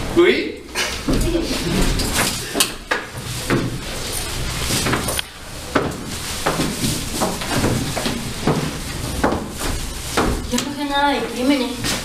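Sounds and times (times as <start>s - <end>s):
furniture knocking and scraping on stage: 1.0s - 12.0s.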